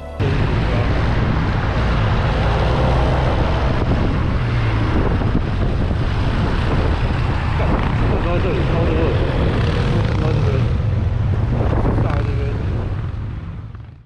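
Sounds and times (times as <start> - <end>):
scooter engine drone: 0.0 - 14.0
wind rushing over microphone: 0.2 - 14.0.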